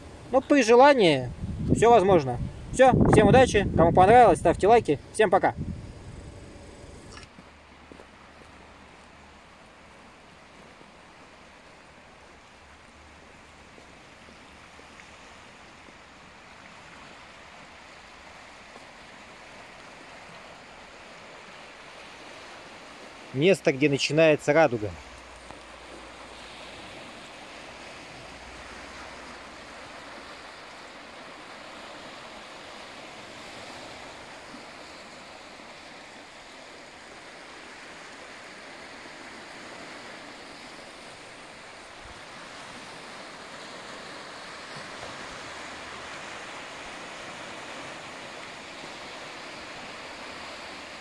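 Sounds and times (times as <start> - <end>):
waves washing onto stony shore: 7.2 - 51.0.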